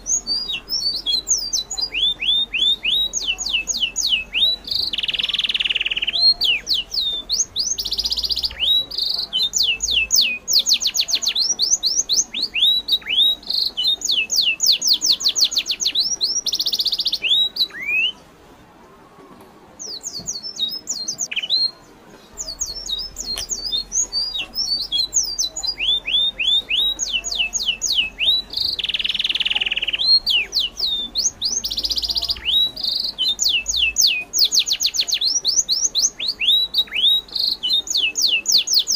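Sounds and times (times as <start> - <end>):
high sweeping bird chirps: 0.0 - 18.2, 22.4 - 38.9.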